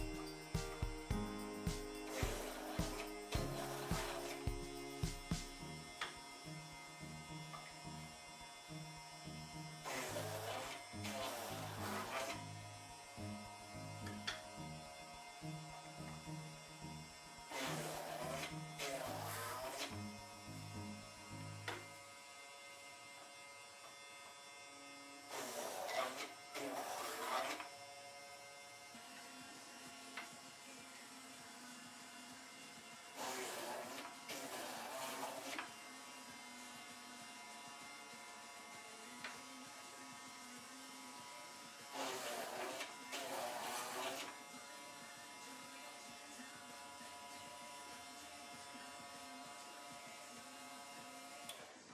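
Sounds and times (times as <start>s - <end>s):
drill bits cutting wood: 0.0s - 51.8s
electric drill motors humming: 0.0s - 51.9s.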